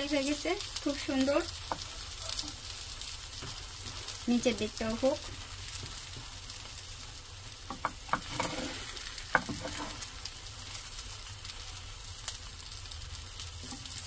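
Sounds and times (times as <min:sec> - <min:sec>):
omelette sizzling in a frying pan: 0:00.0 - 0:14.0.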